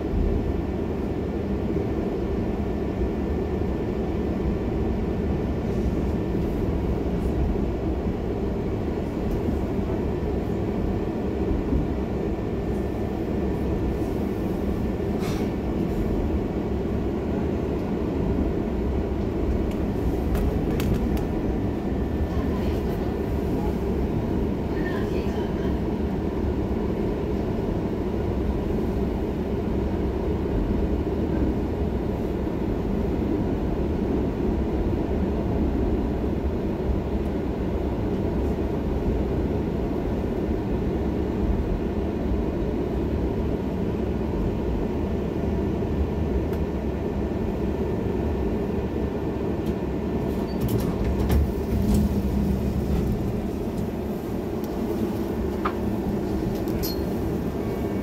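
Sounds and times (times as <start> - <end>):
tram wheels and motors rumbling: 0.0 - 58.0.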